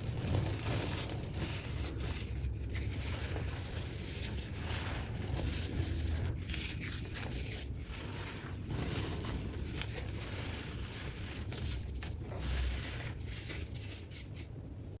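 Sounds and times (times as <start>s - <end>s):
baking soda crunching: 0.0s - 14.5s.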